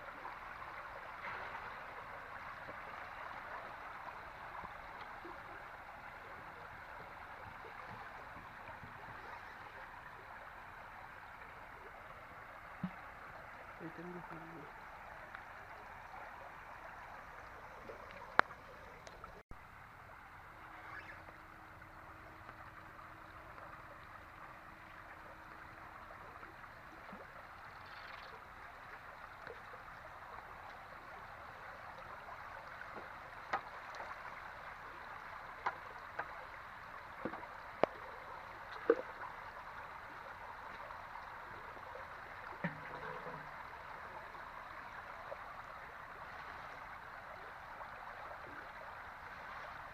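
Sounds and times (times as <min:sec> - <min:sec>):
floodwater flowing: 0:00.0 - 0:49.9.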